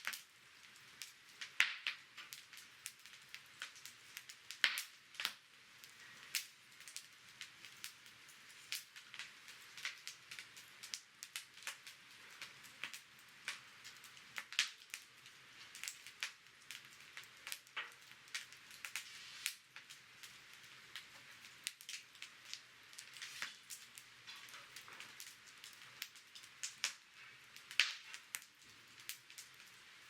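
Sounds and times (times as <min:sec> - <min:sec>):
campfire crackling and popping: 0:00.0 - 0:30.0
fire hiss: 0:00.0 - 0:30.0.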